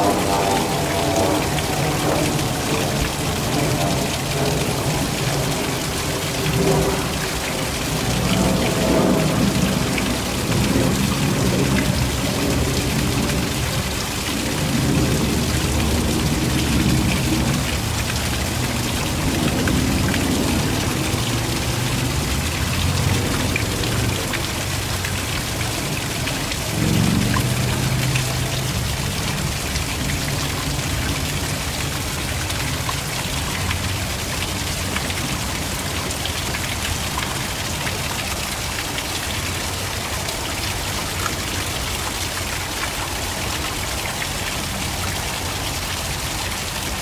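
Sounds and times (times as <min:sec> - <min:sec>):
small waterfall splashing: 0:00.0 - 0:47.0.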